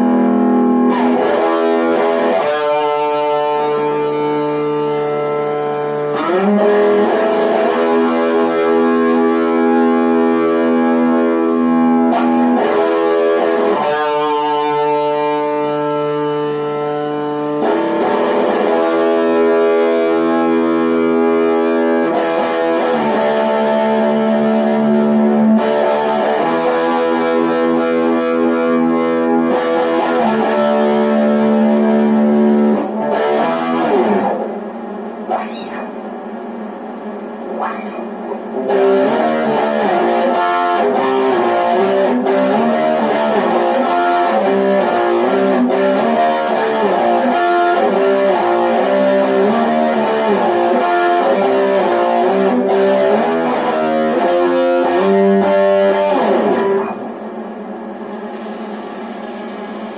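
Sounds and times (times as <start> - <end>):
electric guitar chords ringing: 0.0 - 59.9.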